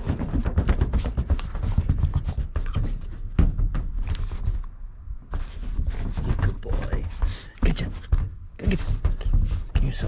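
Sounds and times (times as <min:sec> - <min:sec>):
dog paws scratching on rug: 0:00.0 - 0:10.0
hand patting rug: 0:00.0 - 0:10.0.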